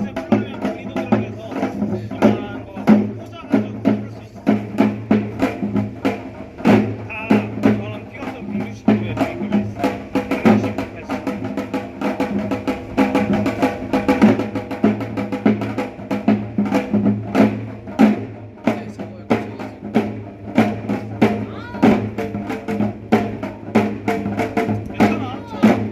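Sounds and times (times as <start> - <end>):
drum percussion music: 0.0 - 25.9.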